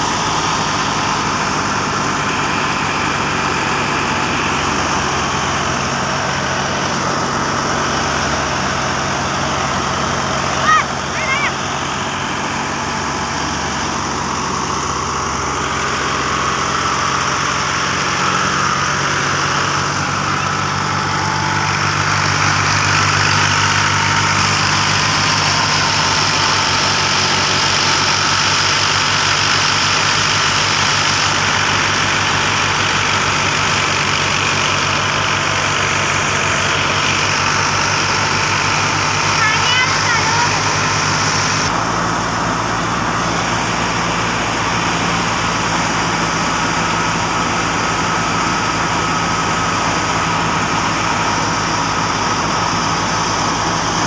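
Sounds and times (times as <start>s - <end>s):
thresher machine whir: 0.0s - 54.0s
tractor engine running: 0.0s - 54.0s.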